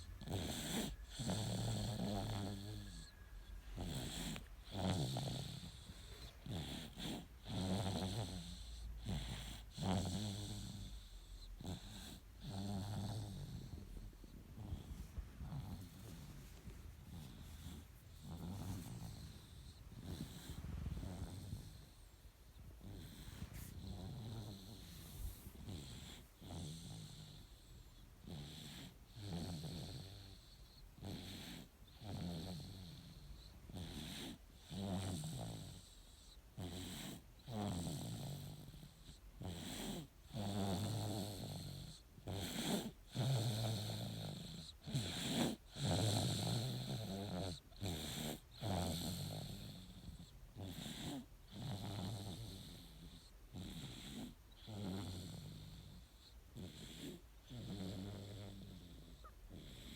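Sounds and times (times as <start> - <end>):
baby snoring: 0.0 - 59.9.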